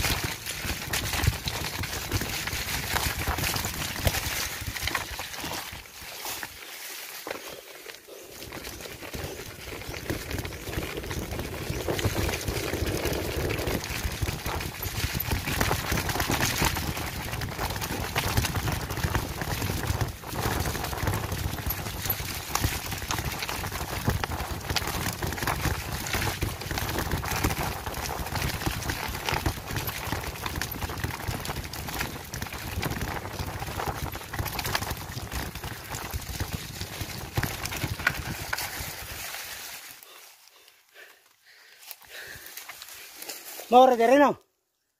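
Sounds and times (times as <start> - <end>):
wind noise: 0.0 - 5.8, 8.5 - 39.4
bike rattling on rough trail: 0.0 - 44.4.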